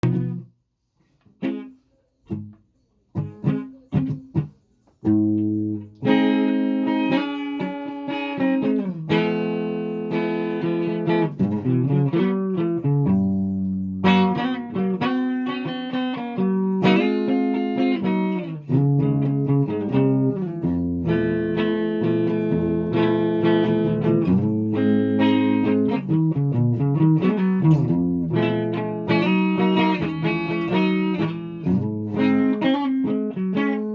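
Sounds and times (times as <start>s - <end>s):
plucked string instrument: 0.0s - 0.5s, 1.3s - 33.9s.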